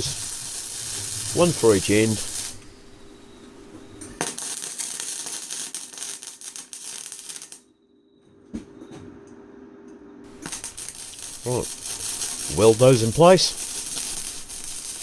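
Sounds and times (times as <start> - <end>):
welder crackling and sizzling: 0.0 - 7.7, 10.3 - 15.0.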